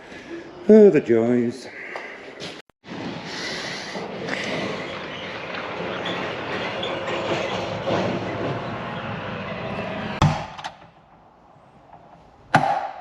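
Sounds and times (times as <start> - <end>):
workshop noise: 1.7 - 13.0.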